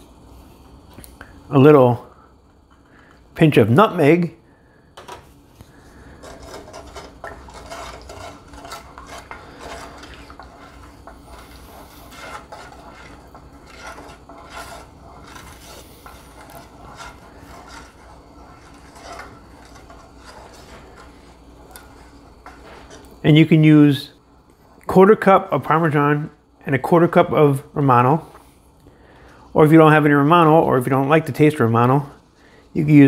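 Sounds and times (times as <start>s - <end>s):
wooden spoon scraping a pan: 5.0s - 33.0s.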